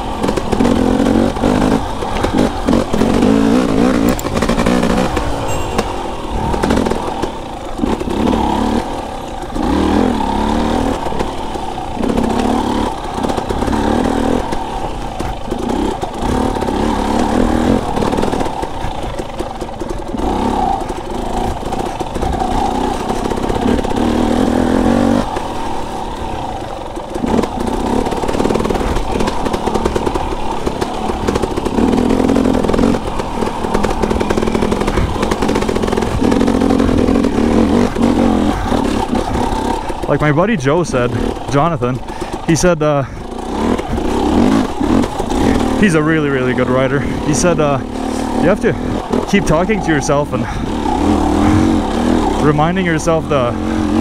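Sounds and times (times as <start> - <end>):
bike rattling: 0.0 - 54.0
dirt bike engine revving: 0.0 - 54.0.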